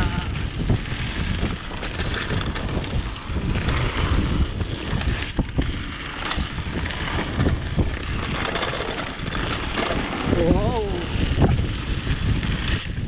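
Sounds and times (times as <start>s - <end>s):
bike knocking and rattling: 0.0s - 13.0s
tyres rolling on dirt: 0.0s - 13.0s
wind rushing over microphone: 0.0s - 13.0s.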